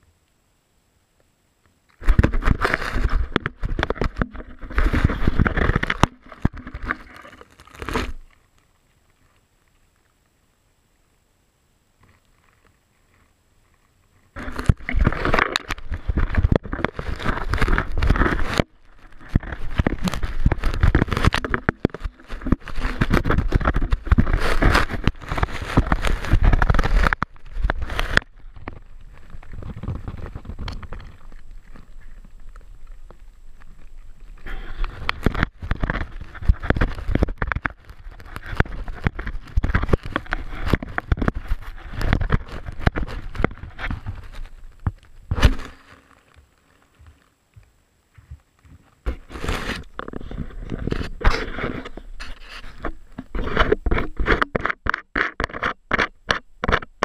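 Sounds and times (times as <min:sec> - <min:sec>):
teeth scraping against camera: 0:02.0 - 0:08.4, 0:12.0 - 0:46.4, 0:49.0 - 0:57.0.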